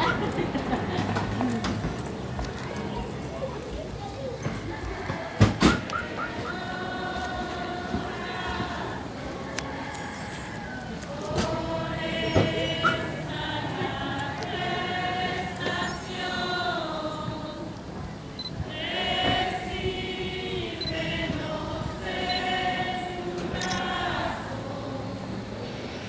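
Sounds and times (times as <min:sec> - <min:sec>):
crowd singing a religious song: 0:00.0 - 0:26.0.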